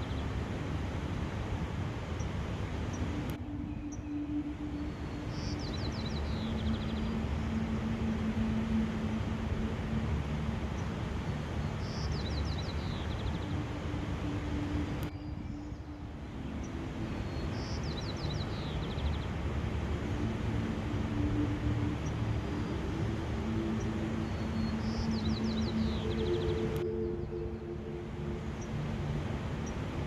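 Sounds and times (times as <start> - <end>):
low hum of held tones: 0.0 - 30.0
steady rushing noise: 0.0 - 30.0.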